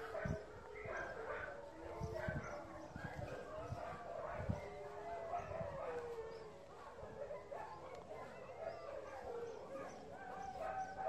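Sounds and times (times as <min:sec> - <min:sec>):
dogs whining and howling: 0:00.0 - 0:11.0.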